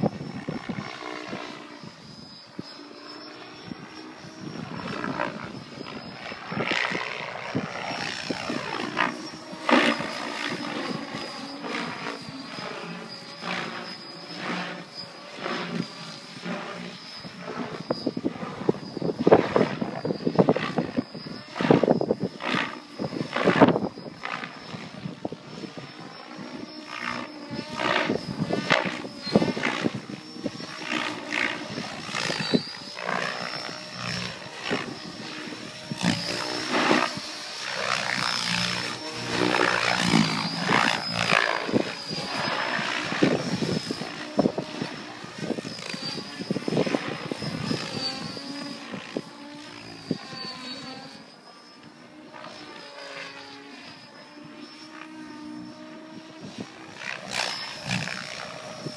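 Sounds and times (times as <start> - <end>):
electric motor high whine: 0.0 - 58.9
helicopter rotor blades swishing: 0.0 - 58.9.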